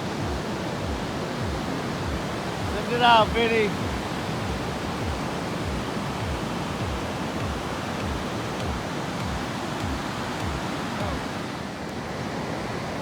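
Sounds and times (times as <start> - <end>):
wind buffeting microphone: 0.0 - 12.8
ocean surf: 0.0 - 13.0.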